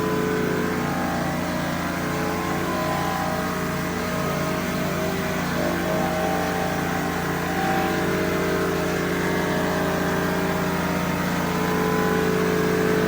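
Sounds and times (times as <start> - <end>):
floor-washing machine motor hum: 0.0 - 13.0.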